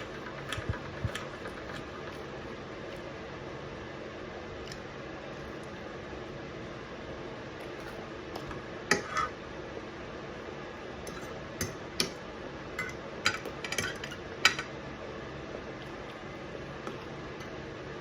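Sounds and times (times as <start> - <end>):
fan hum: 0.0 - 18.0.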